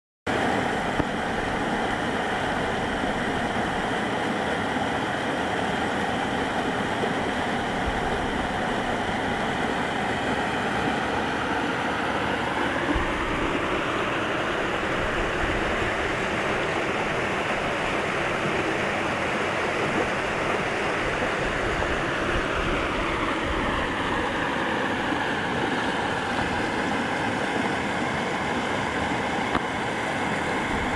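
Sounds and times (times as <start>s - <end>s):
river rapids rushing over rocks: 0.3s - 30.9s.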